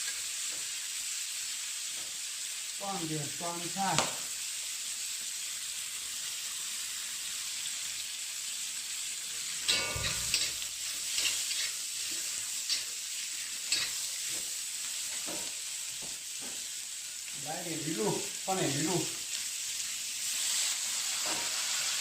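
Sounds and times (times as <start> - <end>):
greens sizzling in a pan: 0.0 - 22.0.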